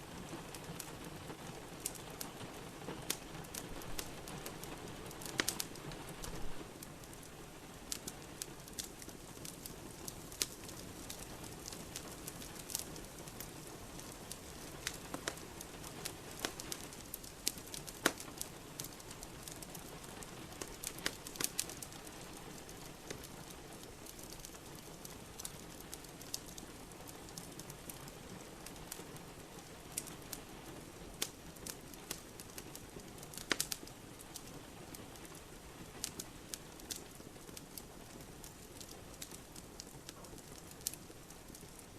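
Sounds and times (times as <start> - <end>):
rain pattering: 0.0 - 41.9
wood fire crackling: 0.0 - 41.9.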